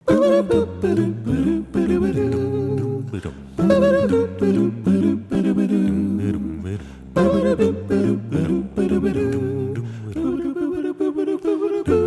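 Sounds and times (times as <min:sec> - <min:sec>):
hummed melody: 0:00.0 - 0:12.0
held bass line: 0:00.1 - 0:11.0.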